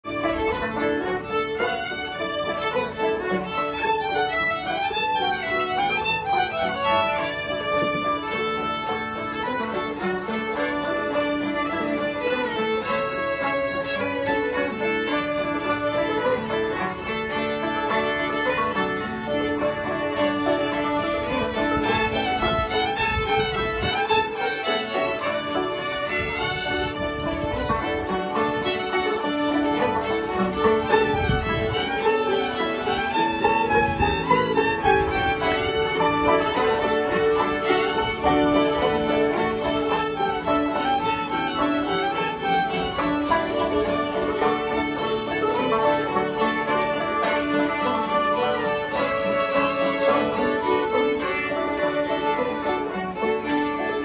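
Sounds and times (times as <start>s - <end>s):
banjo: 0.0s - 54.0s
fiddles playing a polka: 0.0s - 54.0s
guitar accompaniment: 0.1s - 54.0s.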